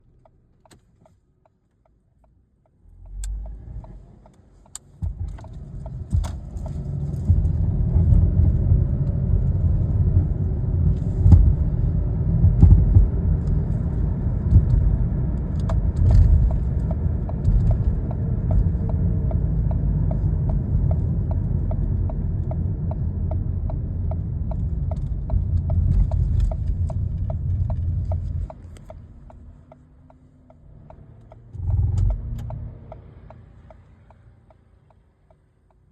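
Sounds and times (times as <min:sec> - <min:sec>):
car low rumble: 0:00.0 - 0:35.9
regular ticking: 0:00.0 - 0:35.9.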